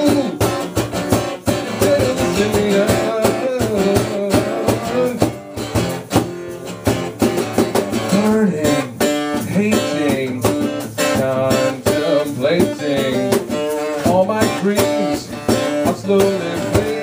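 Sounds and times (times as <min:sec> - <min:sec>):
fast drum hits: 0:00.0 - 0:17.0
guitar bending notes: 0:00.0 - 0:17.0.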